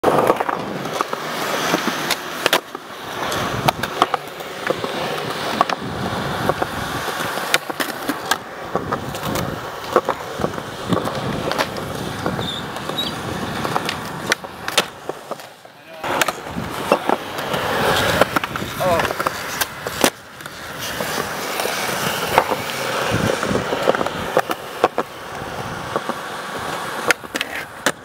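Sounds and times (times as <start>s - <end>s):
skateboard clacks: 0.0s - 28.0s
skateboard wheels rolling on concrete: 0.0s - 28.0s.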